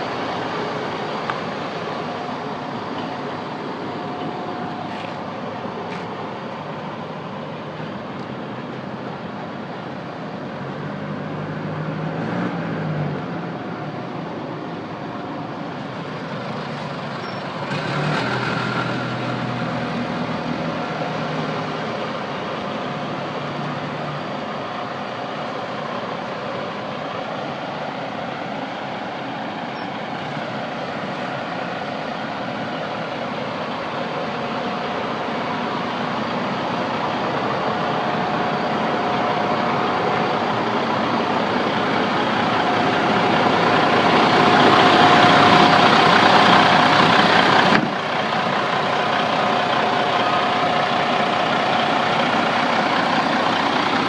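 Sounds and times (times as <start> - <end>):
diesel truck engine revving: 0.0 - 54.0.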